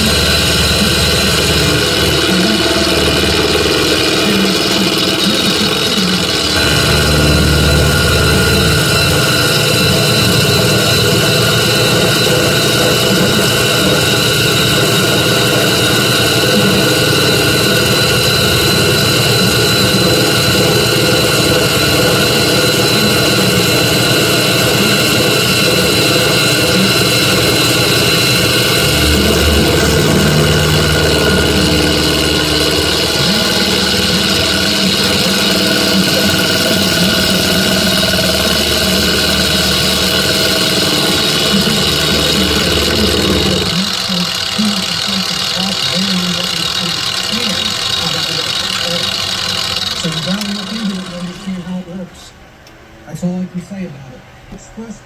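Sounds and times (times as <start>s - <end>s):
metal lathe running with high whine: 0.0s - 52.5s.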